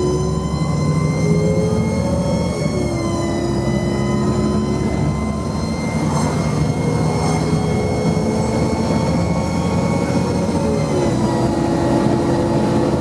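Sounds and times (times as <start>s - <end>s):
bus engine humming and whining: 0.0s - 13.0s.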